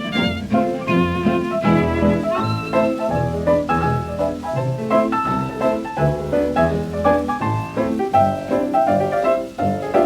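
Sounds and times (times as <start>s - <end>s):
dance band playing fox trot: 0.0s - 10.0s.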